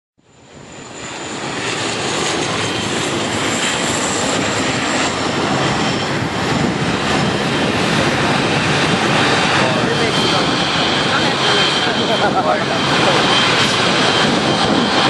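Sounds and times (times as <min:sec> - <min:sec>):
turboprop plane droning overhead: 0:00.2 - 0:15.0.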